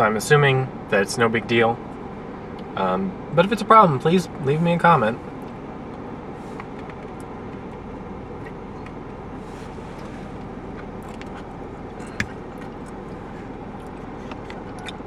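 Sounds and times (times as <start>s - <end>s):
car air conditioning fan hum: 0.0s - 15.0s.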